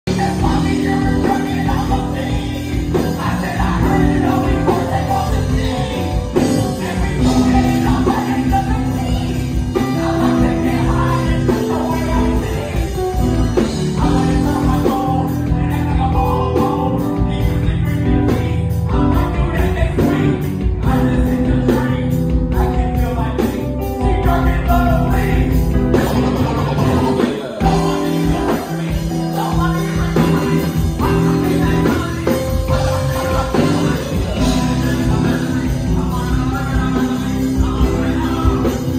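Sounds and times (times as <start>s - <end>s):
drums: 0.0s - 38.9s
electric guitars: 0.0s - 38.9s
keyboards: 0.0s - 38.9s
person singing into a microphone: 0.0s - 38.9s.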